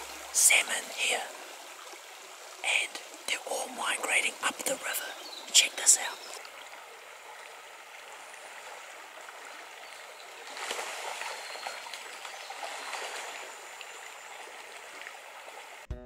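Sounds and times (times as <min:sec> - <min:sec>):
river water rushing over rocks: 0:00.0 - 0:15.8.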